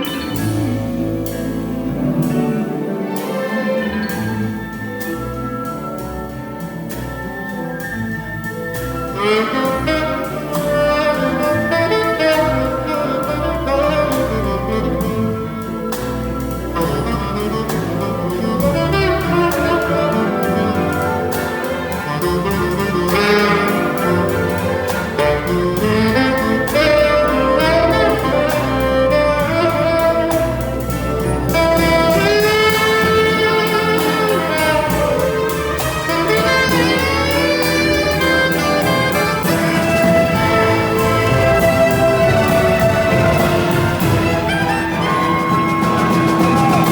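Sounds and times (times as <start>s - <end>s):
pitch-bending melody line: 0.0s - 15.9s, 16.8s - 46.9s
jazz orchestra playing blues: 0.0s - 46.9s.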